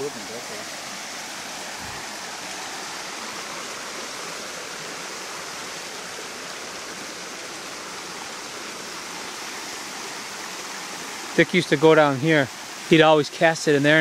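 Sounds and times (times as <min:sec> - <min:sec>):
creek water rushing over rapids: 0:00.0 - 0:14.0.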